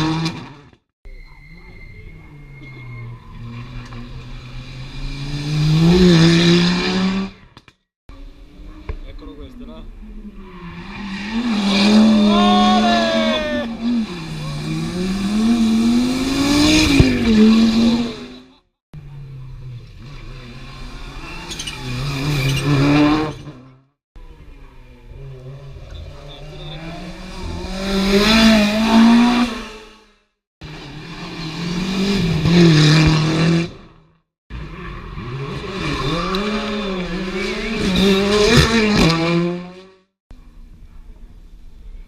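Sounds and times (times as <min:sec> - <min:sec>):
rally car engine at full throttle: 0:00.0 - 0:30.0, 0:30.6 - 0:42.0.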